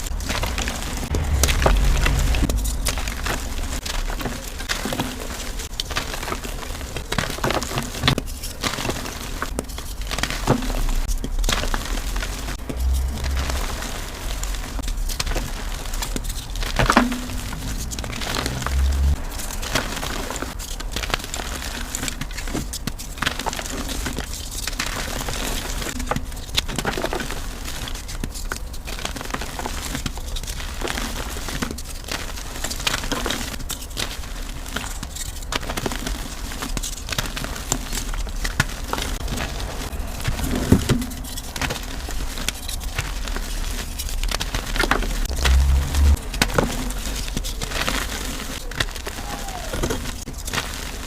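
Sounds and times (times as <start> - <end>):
chalk crunching and crackling: 0.0 - 51.0.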